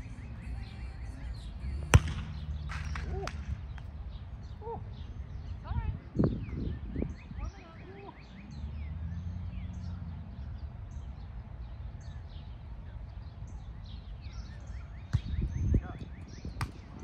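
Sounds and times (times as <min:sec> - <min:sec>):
low outdoor rumble: 0:00.0 - 0:16.0
small birds chirping: 0:00.0 - 0:17.0.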